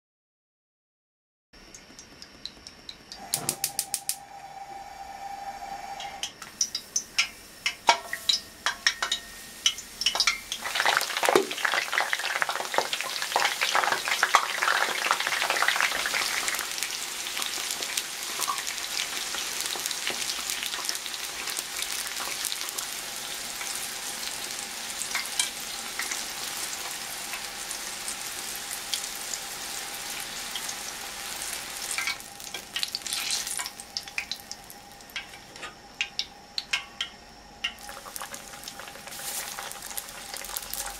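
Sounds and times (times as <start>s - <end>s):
eggplant deep-frying in oil: 1.6s - 4.7s, 6.2s - 40.9s.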